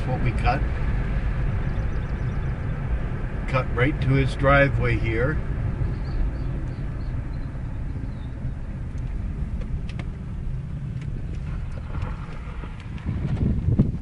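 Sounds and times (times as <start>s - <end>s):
road and wind noise: 0.0s - 14.0s
vehicle engine rumble: 0.0s - 14.0s.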